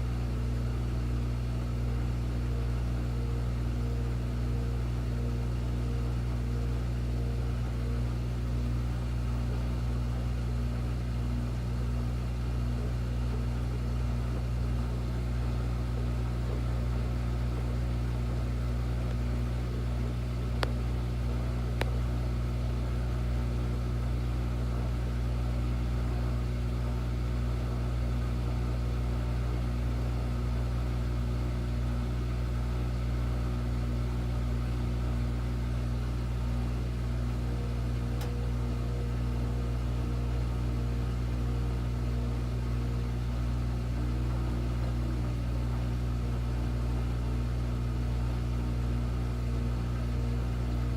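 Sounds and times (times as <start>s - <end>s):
washing machine humming: 0.0s - 50.9s.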